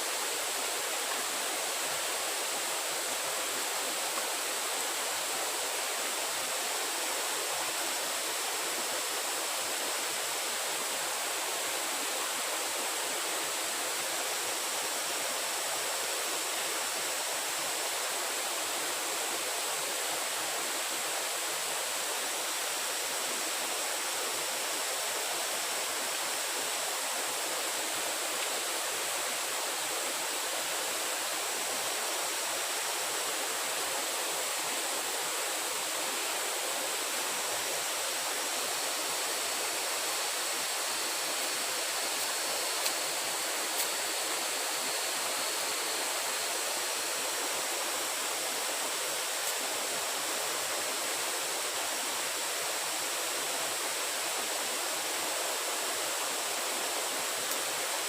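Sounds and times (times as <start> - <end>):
running water hissing: 0.0 - 58.0.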